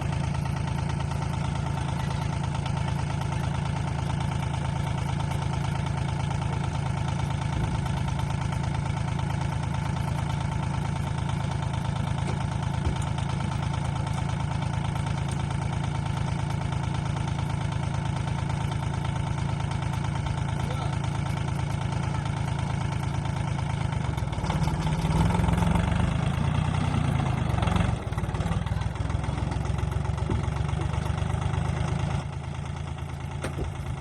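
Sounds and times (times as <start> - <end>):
machine running with deep pulse: 0.0 - 17.6, 18.3 - 34.0.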